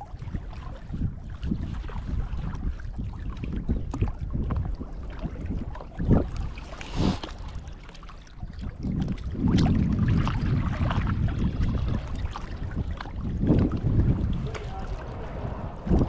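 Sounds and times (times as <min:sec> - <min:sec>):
small waves lapping on rocks: 0:00.0 - 0:16.0
wind buffeting microphone: 0:00.0 - 0:16.0.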